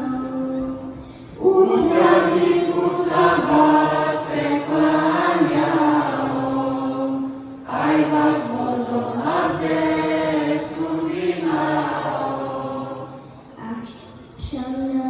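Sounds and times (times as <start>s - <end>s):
children's choir singing: 0.0s - 13.6s.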